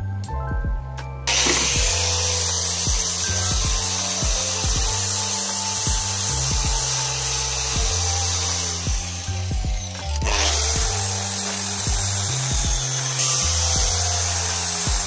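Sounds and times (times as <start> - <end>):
music with steady beat: 0.0 - 15.0
angle grinder grinding steel: 1.3 - 15.0.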